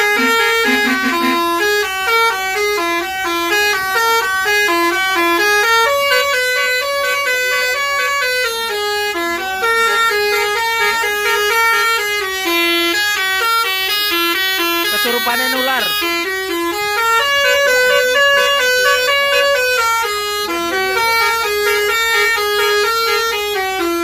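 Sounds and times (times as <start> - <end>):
musical bus horn tune: 0.0 - 24.0.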